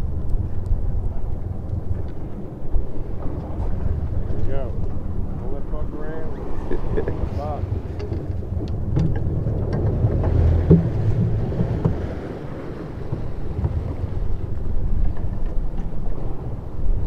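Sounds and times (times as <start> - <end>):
boat engine rumbling: 0.0 - 17.0
water rushing along hull: 0.0 - 17.0
wind buffeting microphone: 0.0 - 17.0.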